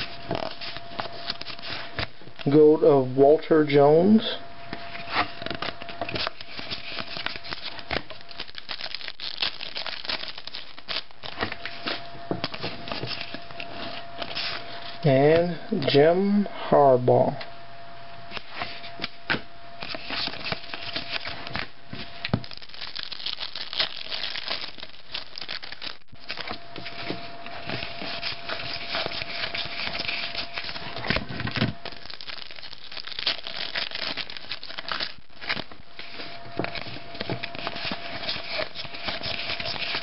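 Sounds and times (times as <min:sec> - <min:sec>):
cards being flipped: 0:00.0 - 0:02.1, 0:05.2 - 0:14.6, 0:18.3 - 0:21.7, 0:22.3 - 0:40.0
foil wrapper crinkling: 0:00.0 - 0:02.5, 0:04.9 - 0:15.0, 0:19.8 - 0:40.0.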